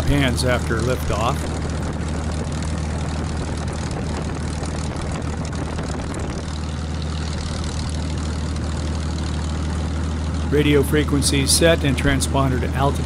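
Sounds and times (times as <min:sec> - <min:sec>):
aircraft engine and propeller running: 0:00.0 - 0:13.0.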